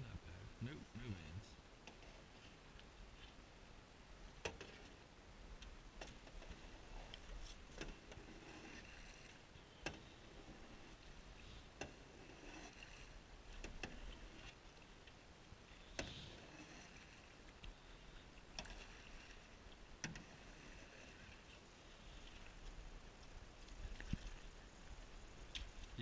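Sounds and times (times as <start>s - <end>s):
faint water swishing: 0.0s - 26.0s.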